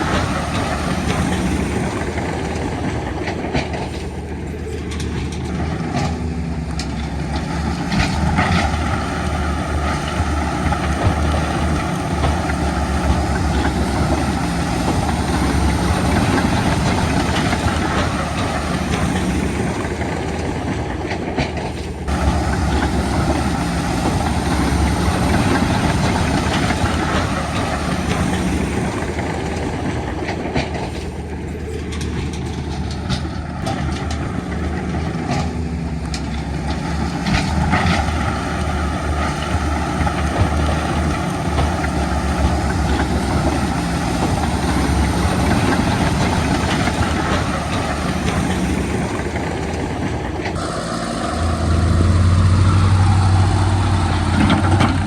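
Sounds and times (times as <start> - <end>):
metallic clanks and rattles: 0.0 - 50.6
heavy diesel machinery running: 0.0 - 55.0.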